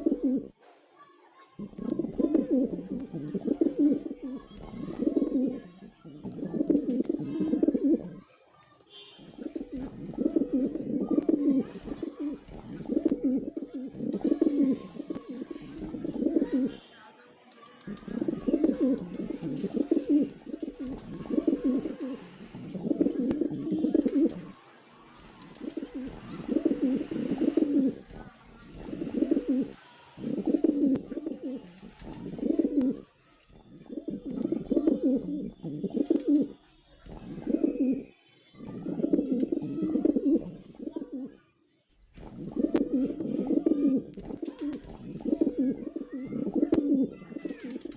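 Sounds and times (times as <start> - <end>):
pigeons cooing: 0.0 - 0.5, 1.6 - 8.2, 9.2 - 16.8, 17.8 - 24.6, 25.3 - 41.4, 42.2 - 47.9.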